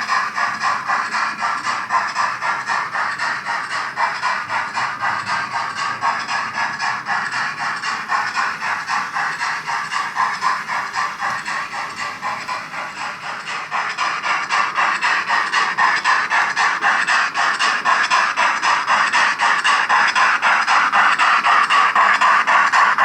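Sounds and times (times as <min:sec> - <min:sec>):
rapid steam chuff from small speaker: 0:00.0 - 0:23.0.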